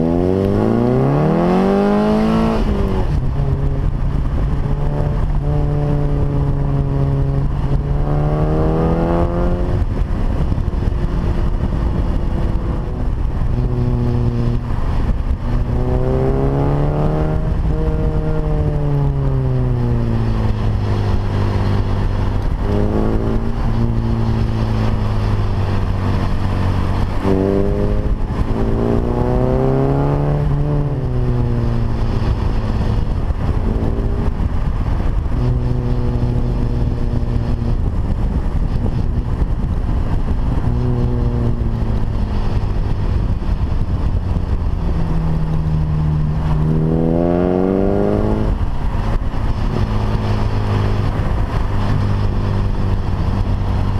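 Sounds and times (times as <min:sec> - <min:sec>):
car engine revving: 0:00.0 - 0:53.9
road and wind noise: 0:00.0 - 0:53.9.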